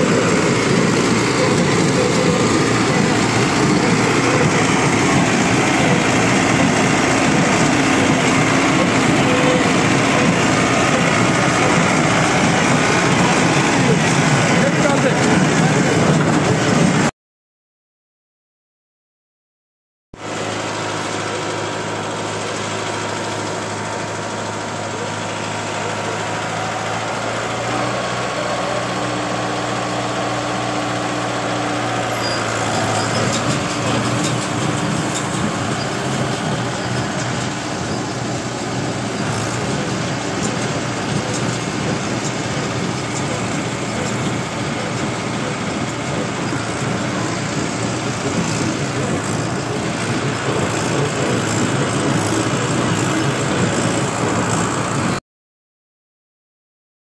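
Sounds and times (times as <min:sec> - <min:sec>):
tractor diesel engine running: 0:00.0 - 0:17.1, 0:20.2 - 0:55.2.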